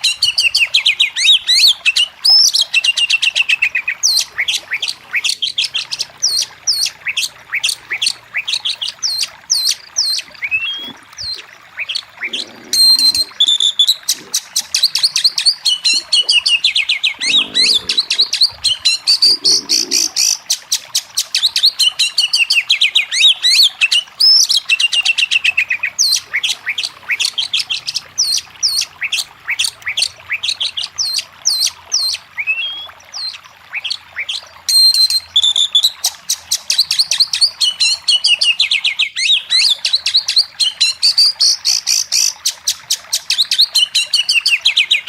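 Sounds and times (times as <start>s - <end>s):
bird singing chirps and trills: 0.0s - 45.0s.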